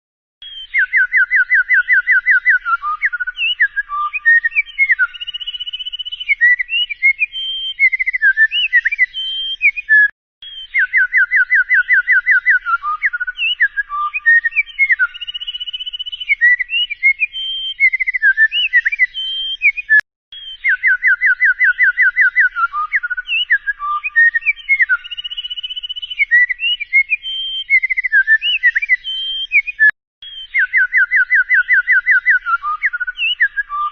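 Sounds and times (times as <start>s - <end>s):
songbird singing: 0.4s - 33.9s.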